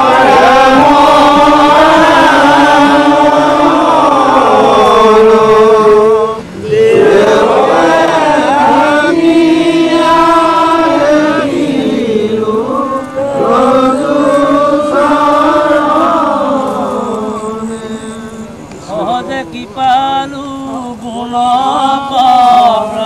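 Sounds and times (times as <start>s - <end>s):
group chanting a hymn: 0.0s - 23.0s.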